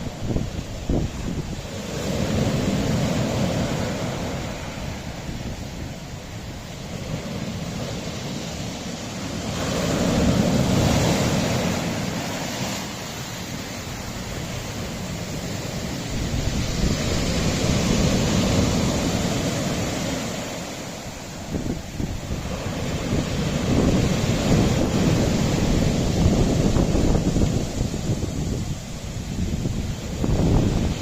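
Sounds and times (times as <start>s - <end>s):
sea waves on rocky shore: 0.0s - 31.0s.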